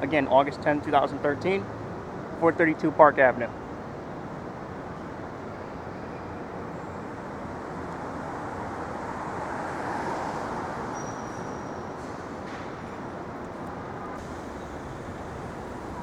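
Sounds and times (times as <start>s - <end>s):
passing traffic: 0.0s - 16.0s.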